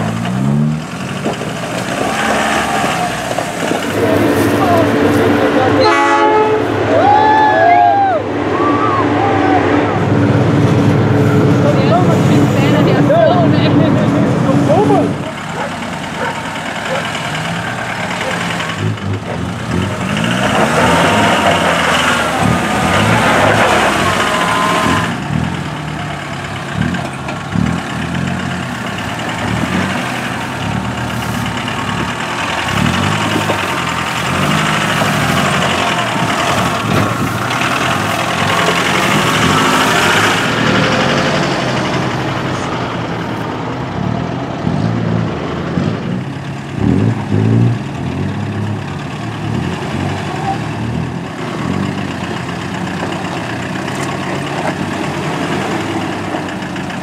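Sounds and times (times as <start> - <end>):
diesel engine running at low revs: 0.0 - 57.0
second vehicle engine running: 0.0 - 57.0.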